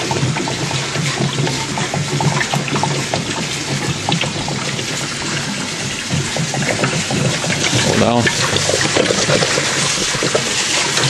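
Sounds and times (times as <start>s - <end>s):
running water splashing: 0.0s - 11.0s.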